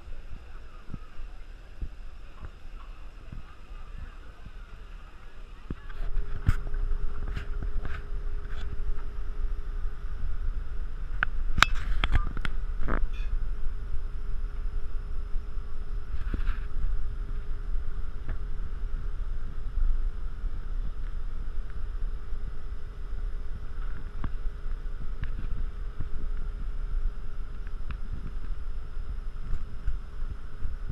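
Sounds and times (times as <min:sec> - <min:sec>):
steady background hum: 0:00.0 - 0:30.9
wind buffeting microphone: 0:00.0 - 0:30.9.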